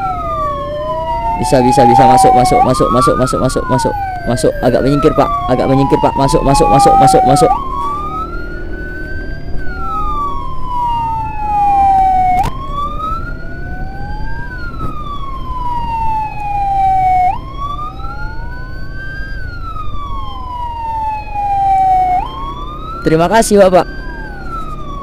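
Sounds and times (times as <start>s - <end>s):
electronic emergency siren wailing: 0.0s - 25.0s
second siren tone: 0.0s - 25.0s
vehicle engine rumble: 0.0s - 25.0s.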